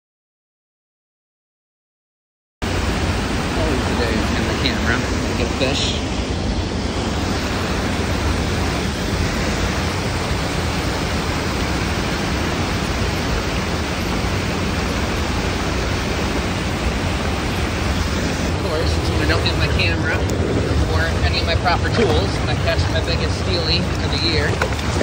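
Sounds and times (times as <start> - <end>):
creek water rushing over cascade: 2.6 - 25.0.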